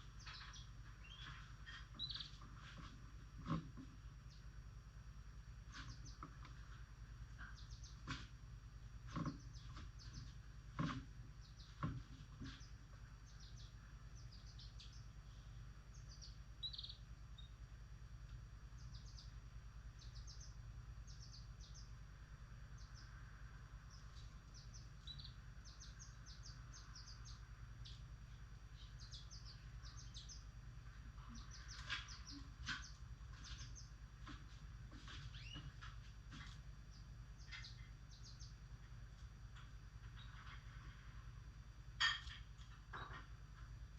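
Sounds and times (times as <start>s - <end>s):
lovebirds chirping: 0.0s - 4.6s, 5.6s - 8.2s, 9.0s - 17.7s, 18.6s - 39.0s
steady low hum: 0.0s - 43.9s.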